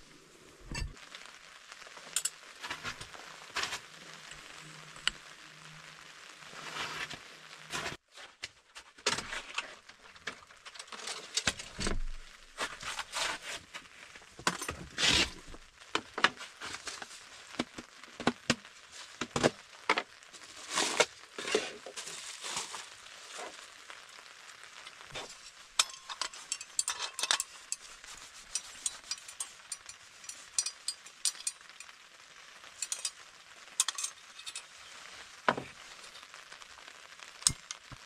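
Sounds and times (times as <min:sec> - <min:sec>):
rain hissing: 0:00.0 - 0:08.0, 0:09.7 - 0:38.0.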